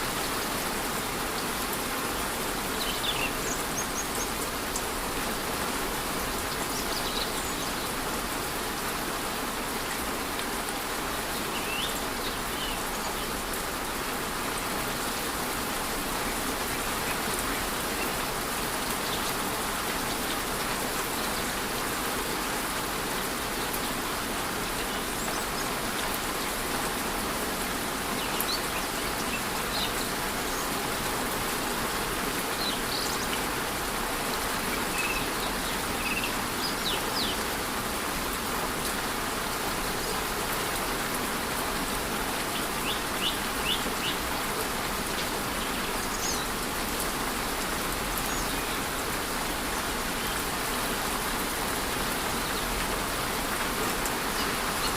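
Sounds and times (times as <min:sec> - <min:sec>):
light rain falling: 0:00.0 - 0:54.9.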